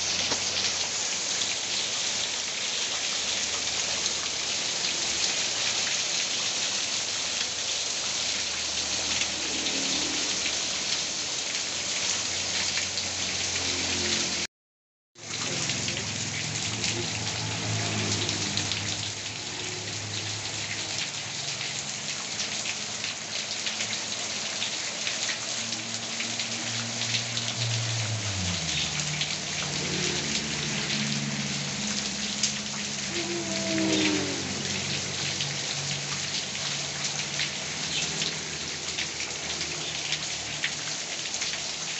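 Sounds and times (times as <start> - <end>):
heavy rain falling: 0.0 - 14.5, 15.2 - 41.9.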